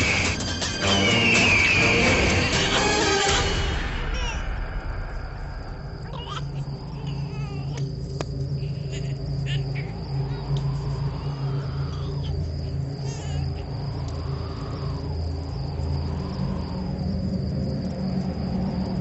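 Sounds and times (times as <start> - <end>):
crickets chirping: 0.0 - 19.0
low drone: 0.0 - 19.0.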